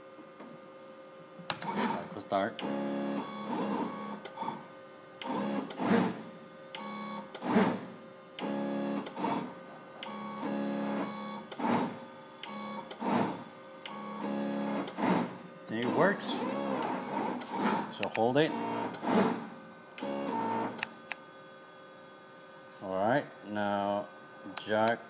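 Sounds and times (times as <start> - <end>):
stepper motors whining hum: 0.0 - 22.2.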